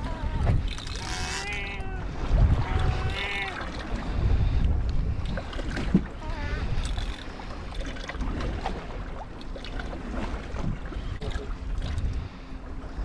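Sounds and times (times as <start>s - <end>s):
wind on the microphone: 0.0s - 8.8s, 10.5s - 13.0s
sea noise: 0.0s - 13.0s.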